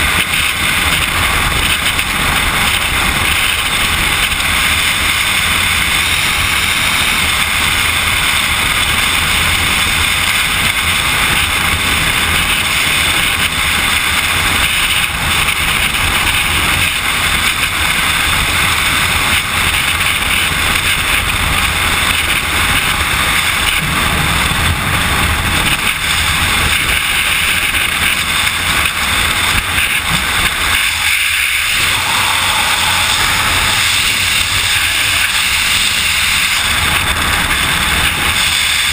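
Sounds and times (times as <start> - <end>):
freefall wind rushing: 0.0 - 38.9.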